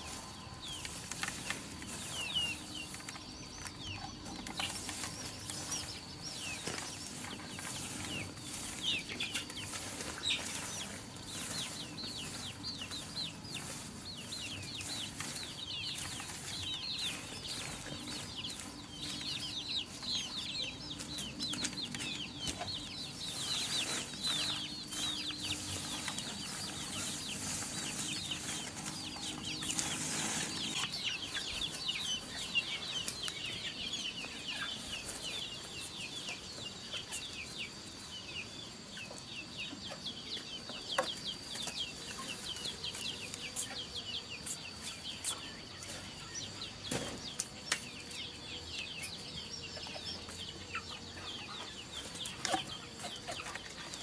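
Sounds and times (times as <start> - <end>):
chickens peeping and clucking: 0.0 - 54.0.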